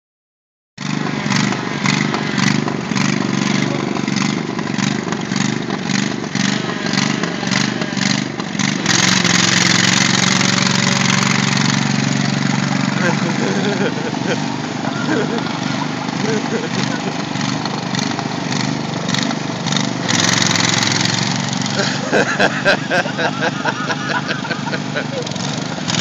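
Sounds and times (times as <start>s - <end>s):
lawn tractor engines surging: 0.8s - 26.0s.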